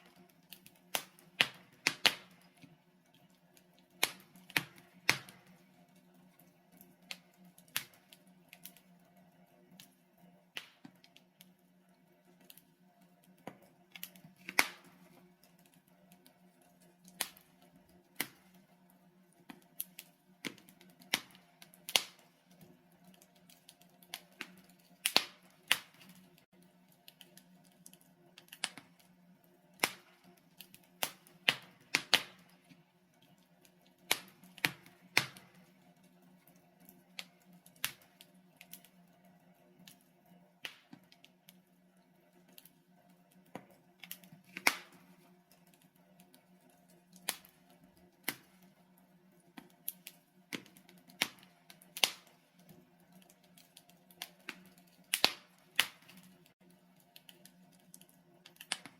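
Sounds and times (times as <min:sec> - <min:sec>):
burning logs crackling and popping: 0:00.0 - 0:58.9.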